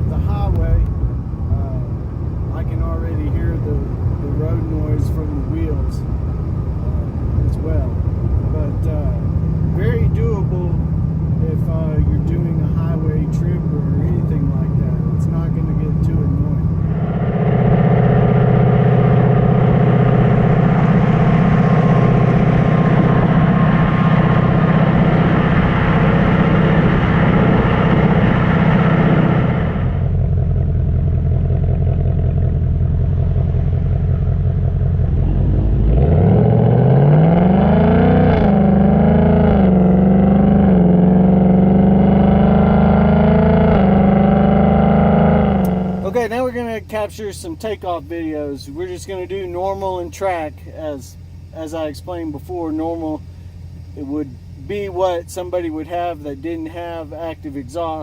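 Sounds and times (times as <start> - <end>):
car exhaust droning: 0.0 - 58.0
road noise: 0.0 - 58.0.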